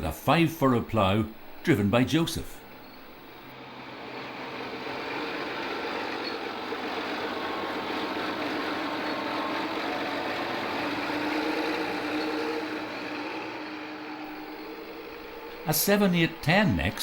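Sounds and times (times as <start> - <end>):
tractor diesel engine driving past: 0.9 - 17.0.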